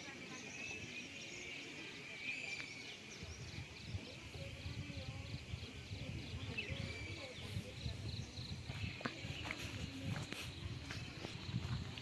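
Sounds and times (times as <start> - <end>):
bird calls: 0.0 - 11.5.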